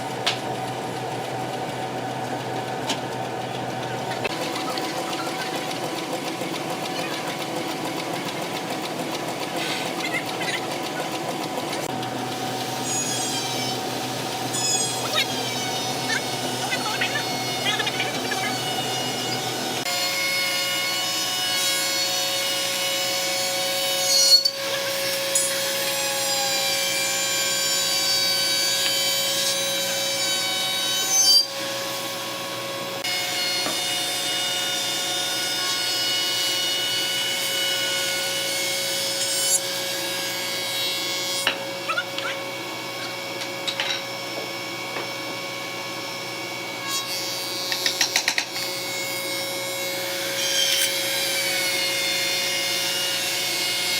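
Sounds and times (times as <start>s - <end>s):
power tool working wood: 4.1s - 53.9s.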